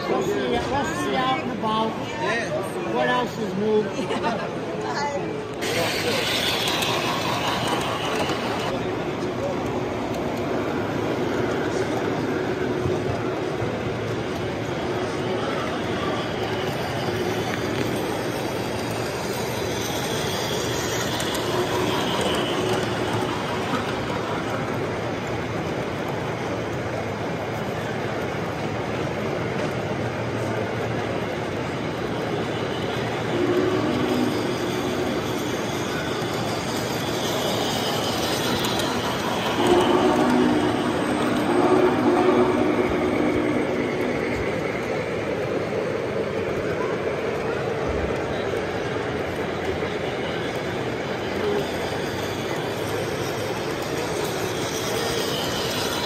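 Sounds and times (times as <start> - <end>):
model train wheels on rails: 0.0 - 56.0.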